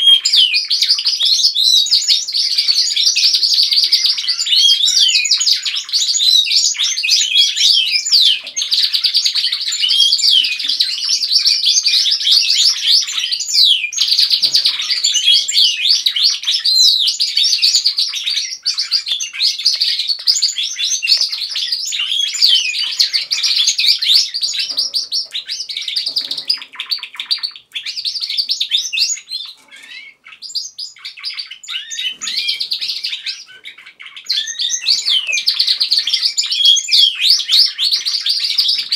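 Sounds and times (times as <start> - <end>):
canaries singing: 0.0 - 38.9.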